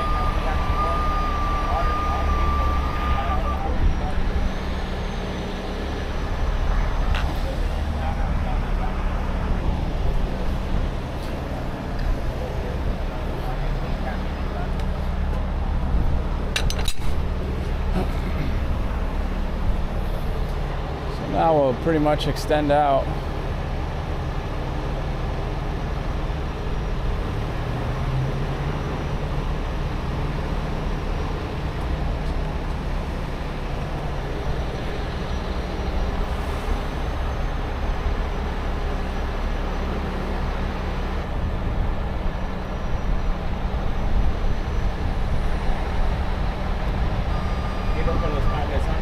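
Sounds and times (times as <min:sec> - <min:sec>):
tow truck diesel engine running: 0:00.0 - 0:49.0.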